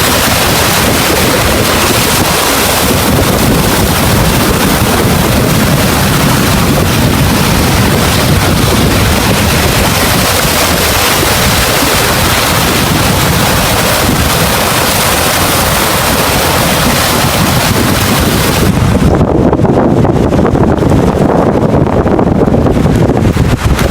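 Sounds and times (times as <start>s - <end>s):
rough sea waves: 0.0s - 23.9s
wind buffeting microphone: 0.0s - 23.9s.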